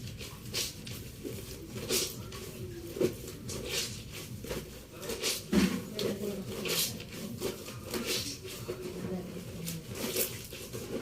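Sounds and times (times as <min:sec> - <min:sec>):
clothes scrubbed in soapy water: 0:00.0 - 0:11.0.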